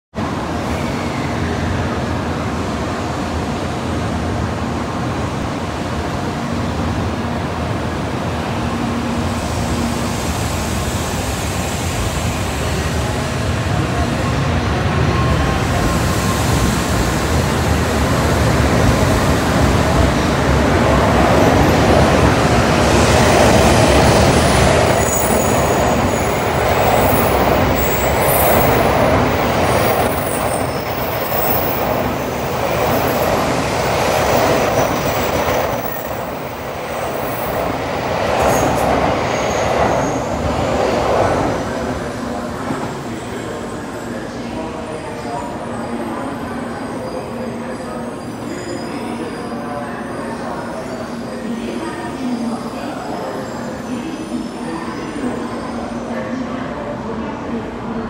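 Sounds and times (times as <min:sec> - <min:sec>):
train running noise: 0:00.2 - 0:58.0.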